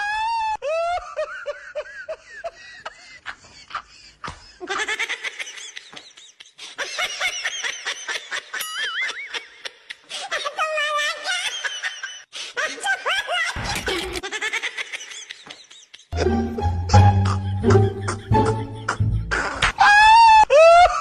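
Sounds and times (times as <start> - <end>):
high-pitched cackling laughter: 0.7 - 21.0.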